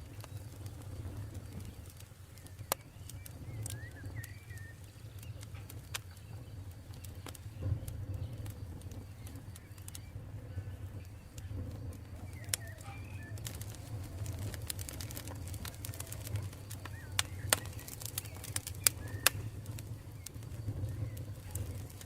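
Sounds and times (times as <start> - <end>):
bird chirping: 0.0 - 22.0
campfire crackling and popping: 0.0 - 22.0.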